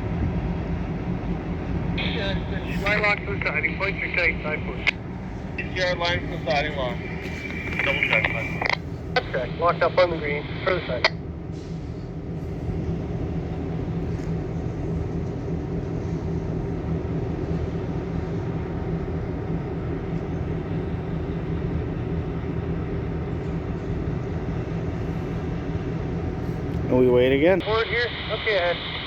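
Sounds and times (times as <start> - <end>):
locomotives droning: 0.0 - 29.0.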